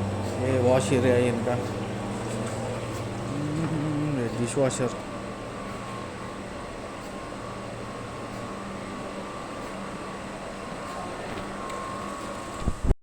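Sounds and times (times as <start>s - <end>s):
kitchen machinery humming: 0.0s - 12.9s.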